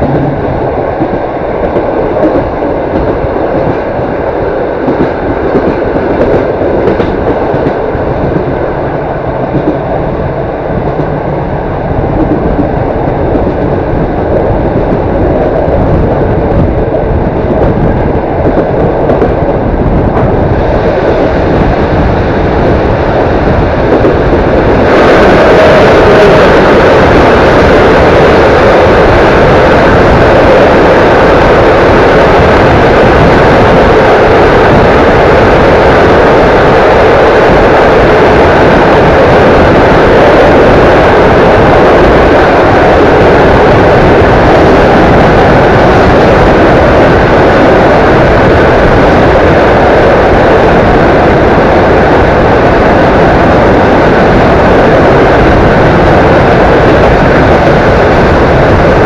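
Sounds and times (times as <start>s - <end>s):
freight train passing close: 0.0s - 59.0s
wind buffeting: 0.0s - 59.0s.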